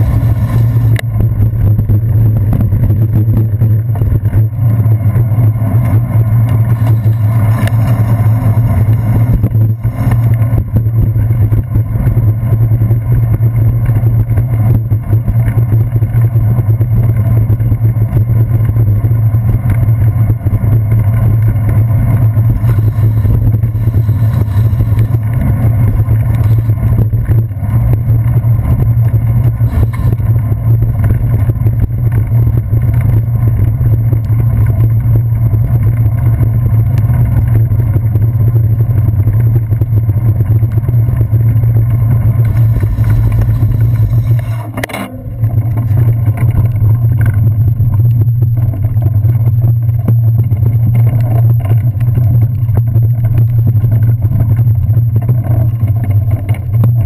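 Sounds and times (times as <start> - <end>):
bicycle road vibration: 0.0 - 57.0
wind rumble: 0.0 - 57.0.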